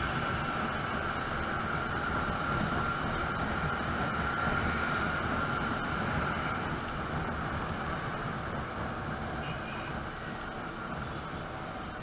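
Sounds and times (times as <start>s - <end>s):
motorbike engine and road rumble: 0.0s - 12.0s
steady high whine: 0.0s - 12.0s.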